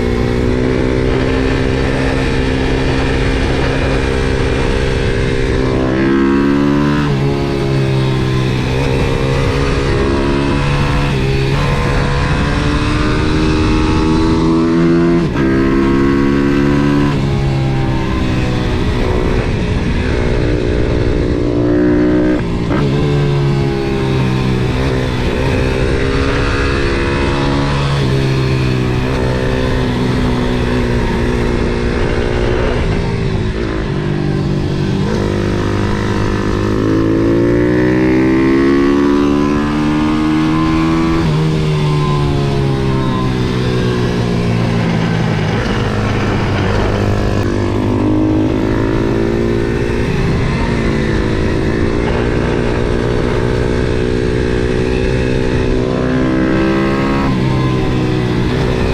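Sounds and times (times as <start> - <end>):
motorbike engine revving: 0.0 - 58.9.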